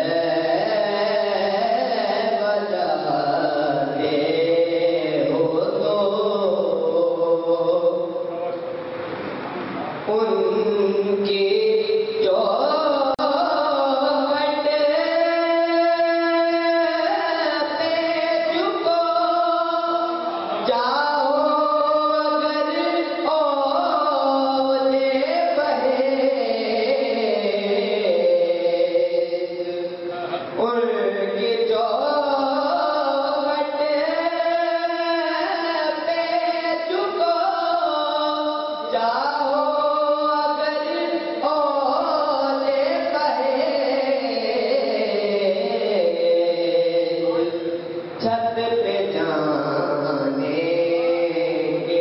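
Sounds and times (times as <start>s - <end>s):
man singing into a microphone: 0.0s - 8.6s, 10.0s - 52.0s.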